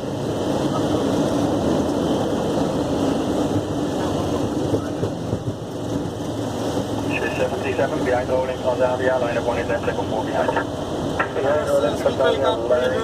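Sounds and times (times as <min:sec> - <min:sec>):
engines and wheels rumbling: 0:00.0 - 0:13.0.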